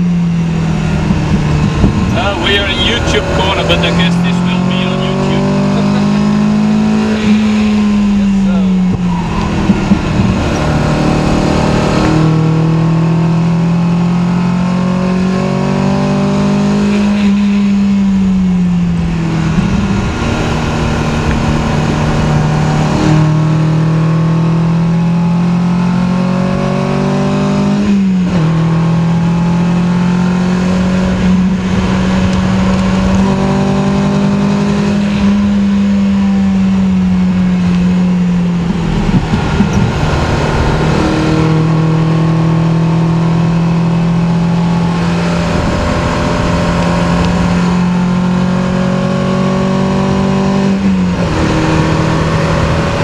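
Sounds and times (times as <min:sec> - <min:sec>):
car engine accelerating hard: 0:00.0 - 0:53.0.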